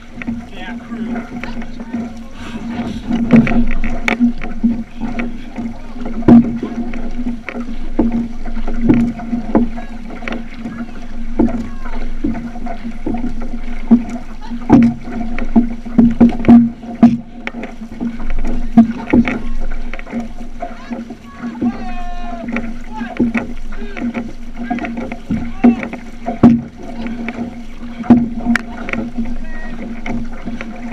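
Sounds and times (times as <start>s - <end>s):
paddles splashing: 0.0s - 30.9s
water rushing along hull: 0.0s - 30.9s.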